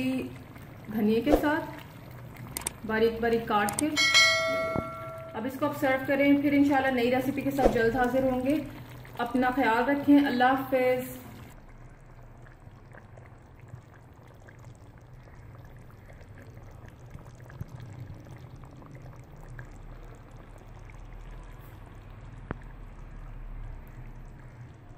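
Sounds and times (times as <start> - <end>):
gravy simmering with bubbling pops: 0.0 - 24.9.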